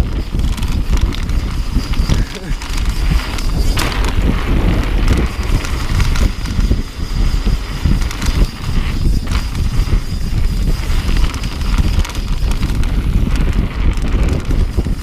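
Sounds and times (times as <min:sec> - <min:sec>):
bike rumbling and rattling: 0:00.0 - 0:15.0
wind buffeting microphone: 0:00.0 - 0:15.0.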